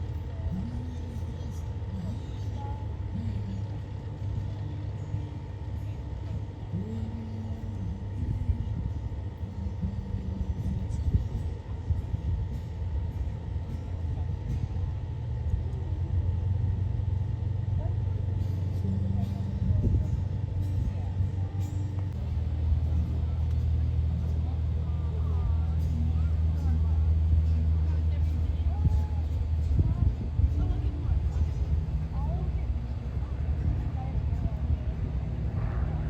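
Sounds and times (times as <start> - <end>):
propeller aircraft engine drone: 0.0 - 36.0.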